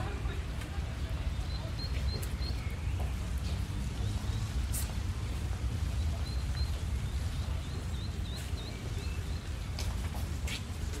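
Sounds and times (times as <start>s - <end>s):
faint crowd voices: 0.0s - 11.0s
small birds chirping: 0.3s - 11.0s.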